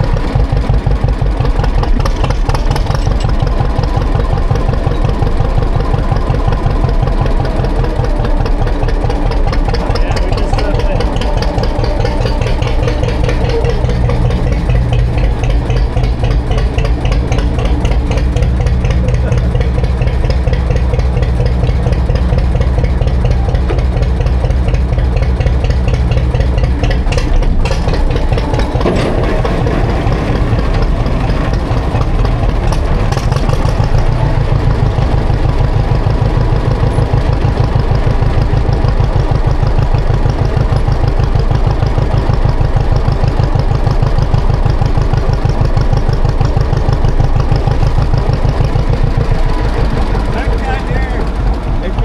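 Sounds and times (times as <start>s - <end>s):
tractor engine pulsing: 0.0s - 52.0s.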